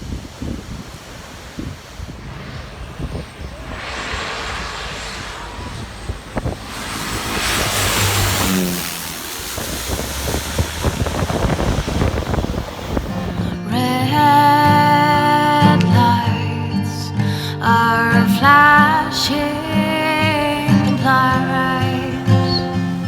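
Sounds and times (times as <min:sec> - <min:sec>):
propeller aircraft passing overhead: 0:00.0 - 0:15.7, 0:18.5 - 0:23.0.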